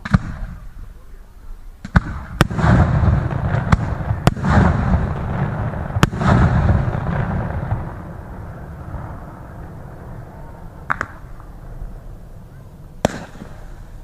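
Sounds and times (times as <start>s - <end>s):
fireworks bangs and booms: 0.0s - 14.0s
fireworks crackling: 0.0s - 14.0s.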